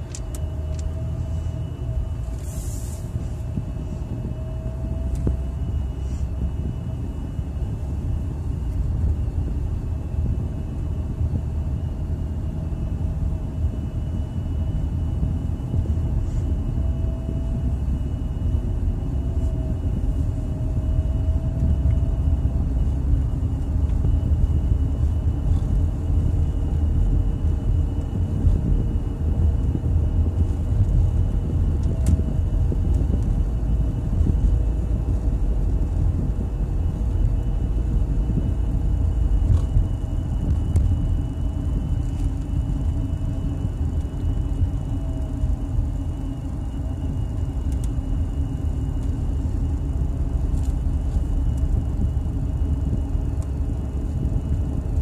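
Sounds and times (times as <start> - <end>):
car engine and tyre rumble: 0.0 - 55.0
faint high whine: 0.0 - 55.0.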